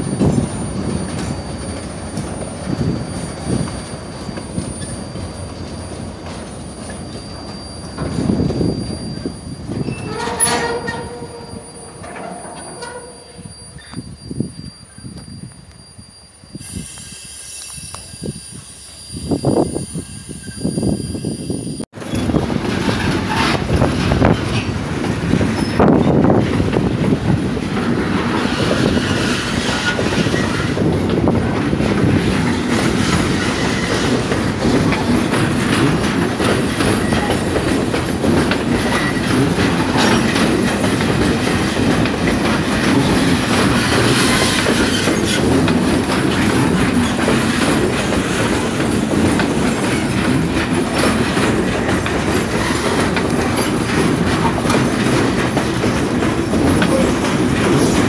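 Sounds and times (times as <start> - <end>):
wheels clickety-clack on rail joints: 0.0 - 18.7, 21.9 - 58.0
train wheels rumbling on rails: 0.0 - 58.0.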